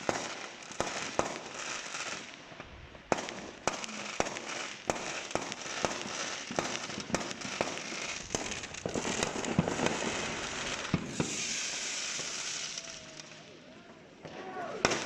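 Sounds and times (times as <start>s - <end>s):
fireworks bangs: 0.0s - 13.6s, 14.2s - 15.0s
fireworks crackling hiss: 0.0s - 15.0s.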